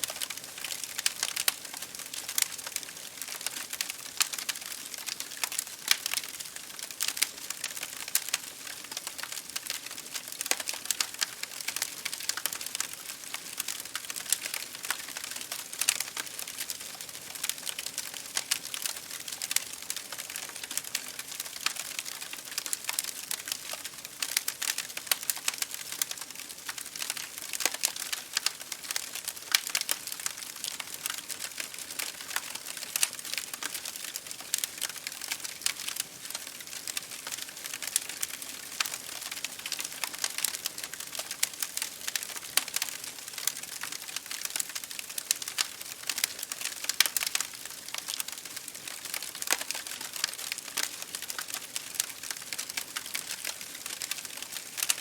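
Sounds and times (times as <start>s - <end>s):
wood fire crackling: 0.0s - 55.0s
rain on window pane: 0.2s - 55.0s.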